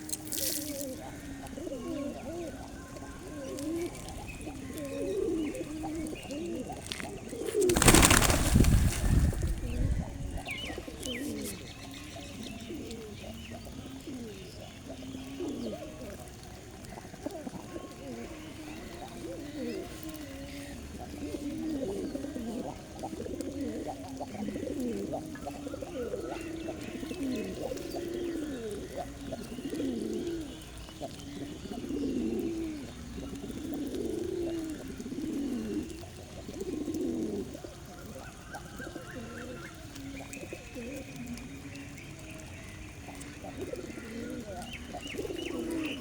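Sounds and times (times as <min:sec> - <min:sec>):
birds giving low rolling calls: 0:00.0 - 0:46.0.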